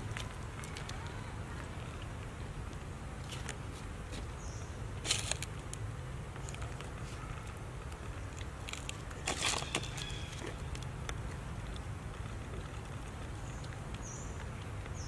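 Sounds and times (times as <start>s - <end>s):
dry food crackling: 0.0s - 15.0s.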